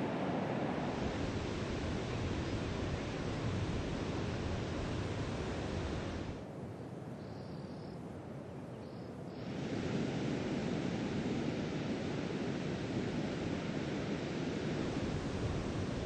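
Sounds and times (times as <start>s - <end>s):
surf on a shoreline: 0.0s - 6.7s, 9.2s - 16.0s
wind: 0.0s - 16.0s.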